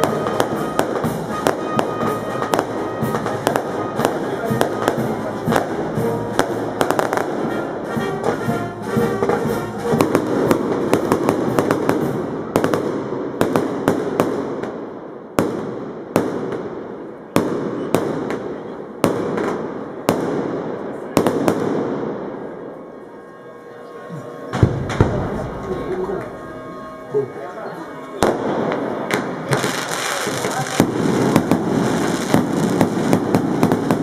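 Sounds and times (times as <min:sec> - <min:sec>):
loud firework bangs with echo: 0:00.0 - 0:08.4, 0:09.2 - 0:22.6, 0:24.5 - 0:26.6, 0:28.2 - 0:34.0
firecracker bangs: 0:00.0 - 0:22.6, 0:24.5 - 0:27.0, 0:28.2 - 0:34.0.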